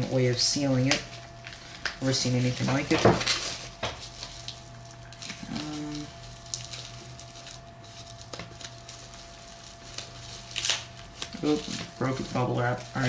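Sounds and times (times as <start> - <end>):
bubble wrap rustling: 0.0 - 13.0
short low hum: 0.0 - 13.0.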